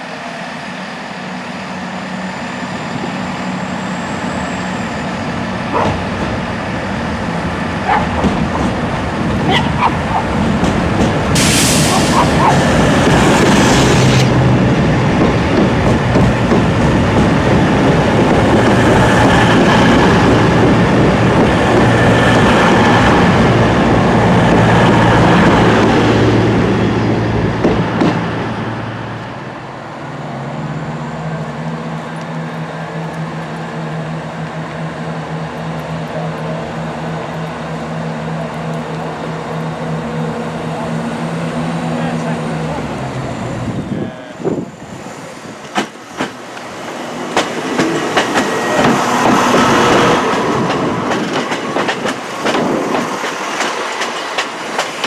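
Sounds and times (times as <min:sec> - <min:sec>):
train running through station: 0:00.0 - 0:55.0.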